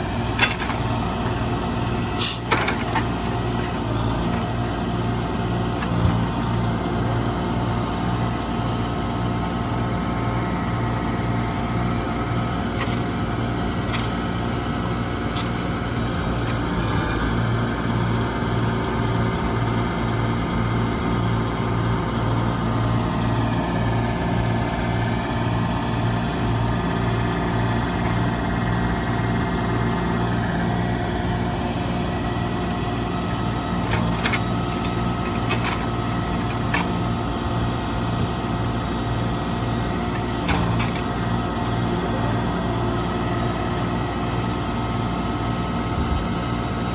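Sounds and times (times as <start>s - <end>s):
machine engine running steadily: 0.0s - 46.9s.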